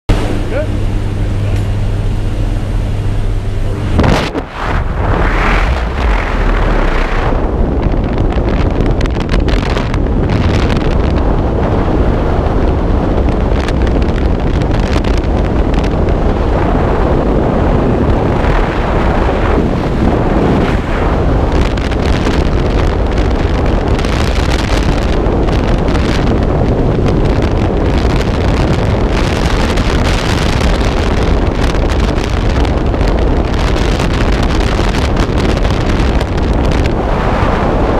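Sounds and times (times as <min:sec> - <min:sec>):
plane engine drone: 0:00.1 - 0:37.9
wind rushing over microphone: 0:00.1 - 0:37.9.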